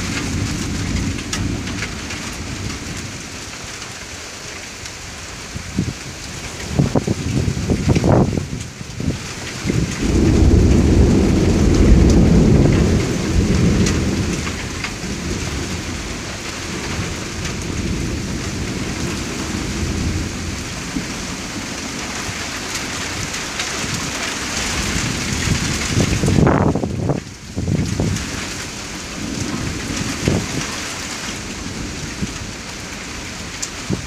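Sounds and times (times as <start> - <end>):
thunder rolling: 0.0 - 3.6, 5.6 - 34.0
steady rain: 0.0 - 34.0.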